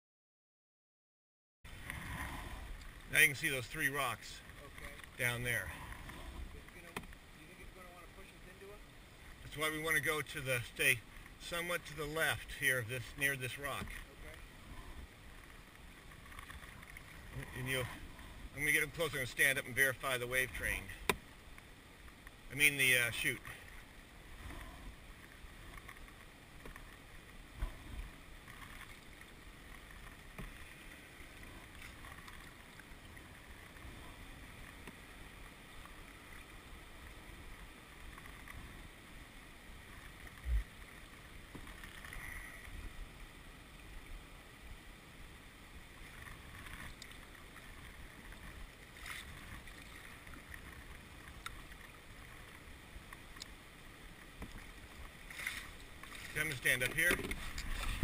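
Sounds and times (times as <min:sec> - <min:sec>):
faint river water: 0:01.7 - 0:58.0.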